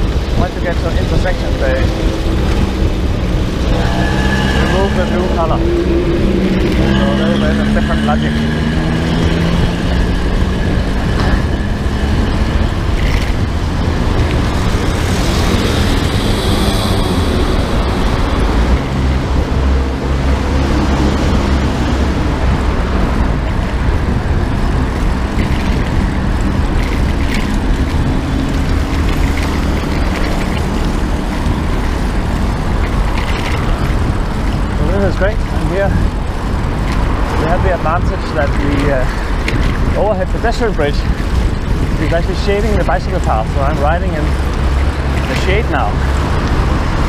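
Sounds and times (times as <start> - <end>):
road traffic: 0.0 - 47.0.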